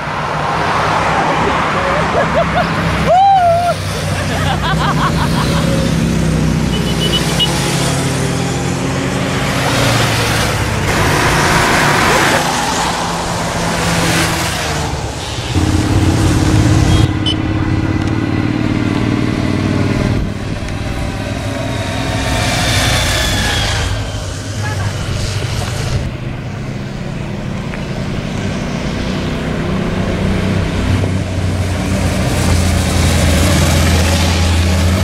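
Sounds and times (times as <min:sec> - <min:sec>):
motorcycles riding past: 0:00.2 - 0:35.0.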